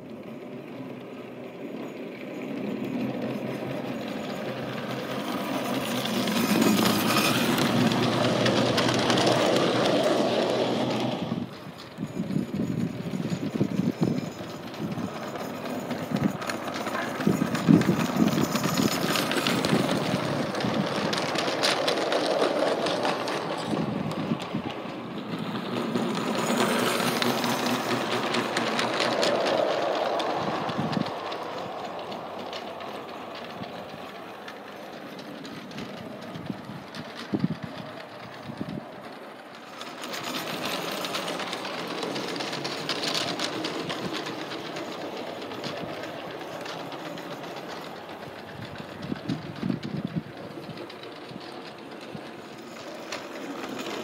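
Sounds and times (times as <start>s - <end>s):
model train motor and gears: 0.0s - 54.0s
wheels clicking over rails: 0.0s - 54.0s.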